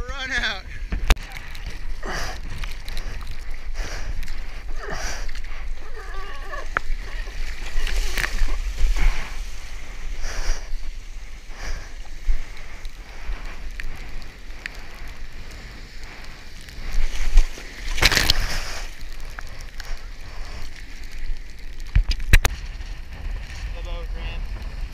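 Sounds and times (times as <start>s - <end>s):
wind rumble on microphone: 0.0s - 24.9s
water splashing against surfboard: 0.4s - 23.6s.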